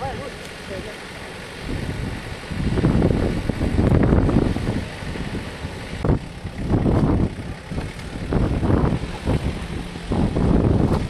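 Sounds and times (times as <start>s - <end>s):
pickup engine revving: 0.0s - 11.0s.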